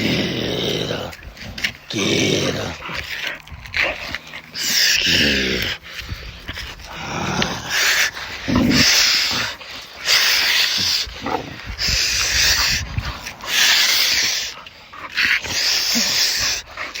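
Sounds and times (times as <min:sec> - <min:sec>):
puppy breathing heavily: 0:00.0 - 0:17.0
puppy grunting: 0:00.0 - 0:17.0.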